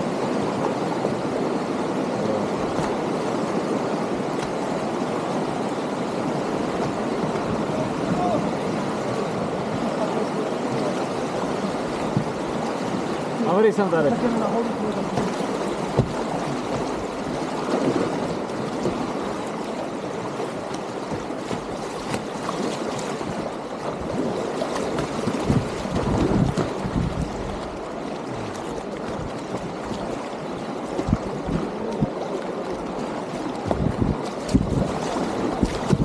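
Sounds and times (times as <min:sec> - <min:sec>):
wind rumble on microphone: 0:00.0 - 0:13.3, 0:14.2 - 0:36.0
whitewater rapids rushing: 0:00.0 - 0:36.0.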